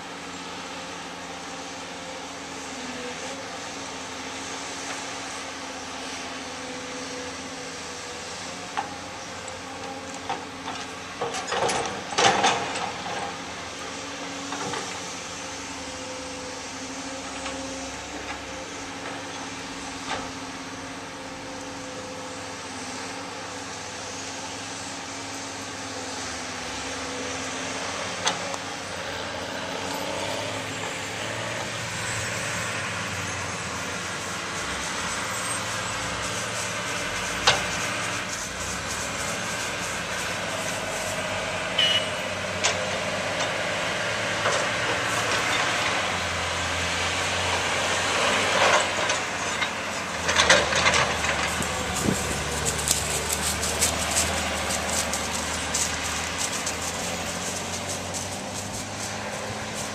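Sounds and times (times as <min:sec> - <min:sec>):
excavator and dump truck running: 0:00.0 - 0:59.9.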